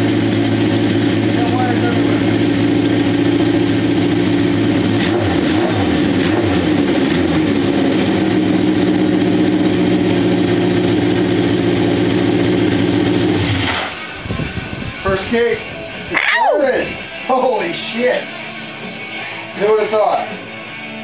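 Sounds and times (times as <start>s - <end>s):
motorcycle engine revving and idling: 0.0s - 18.2s.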